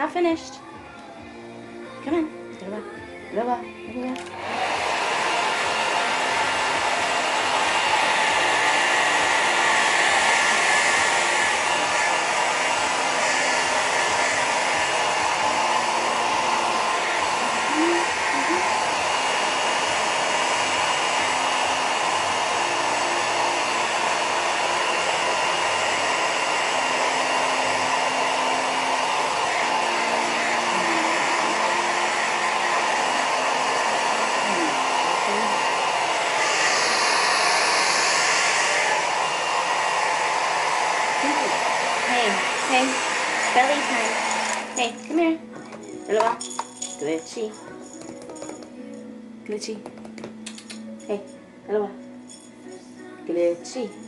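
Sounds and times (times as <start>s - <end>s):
hair dryer blowing: 0.0s - 1.5s, 2.1s - 48.8s, 49.8s - 51.0s.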